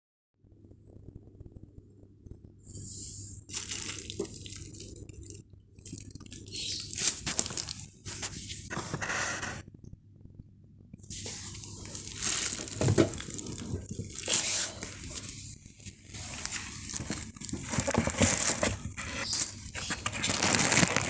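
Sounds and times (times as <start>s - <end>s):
low electrical hum: 0.4s - 21.0s.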